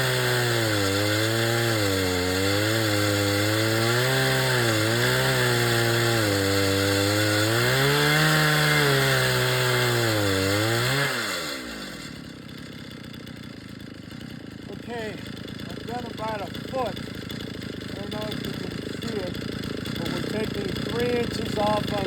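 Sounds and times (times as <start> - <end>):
chainsaw cutting through log: 0.0 - 22.0.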